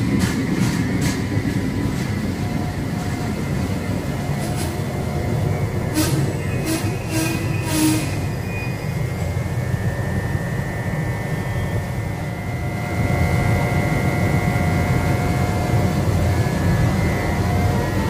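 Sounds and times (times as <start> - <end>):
train rumbling with high whine: 0.0 - 18.0.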